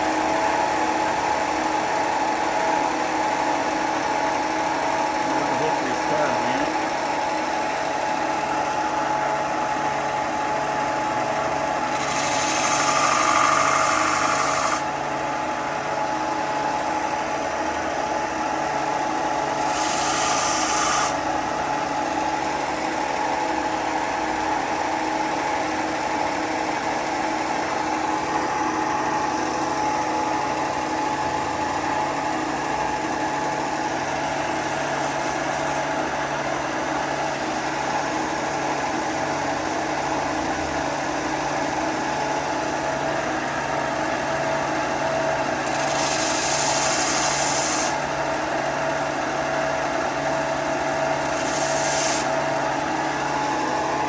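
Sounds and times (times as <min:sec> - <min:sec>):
woodworking power tool running: 0:00.0 - 0:54.0.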